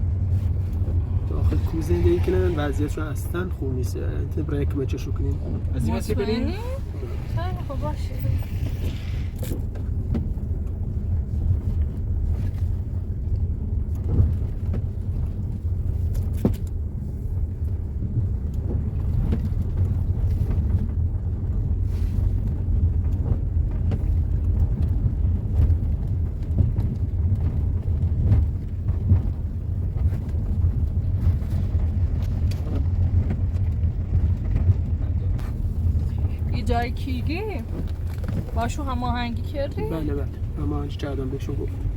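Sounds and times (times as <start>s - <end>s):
car engine and road rumble: 0.0s - 41.9s.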